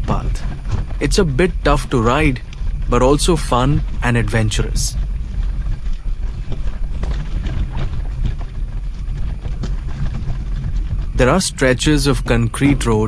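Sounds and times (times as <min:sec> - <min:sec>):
bicycle rattling over rough track: 0:00.0 - 0:13.0.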